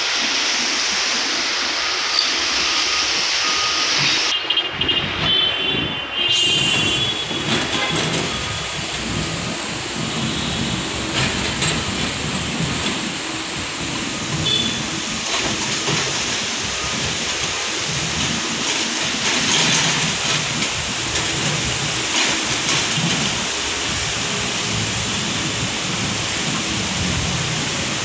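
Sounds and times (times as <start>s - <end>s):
steady rushing hiss: 0.0s - 4.5s, 5.8s - 28.0s
excavator engine rumbling: 1.2s - 28.0s.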